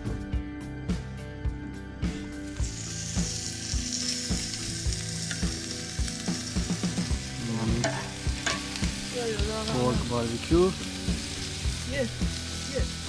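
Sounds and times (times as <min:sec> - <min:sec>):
background music with beat: 0:00.0 - 0:13.0
meat sizzling on grill: 0:02.0 - 0:13.0.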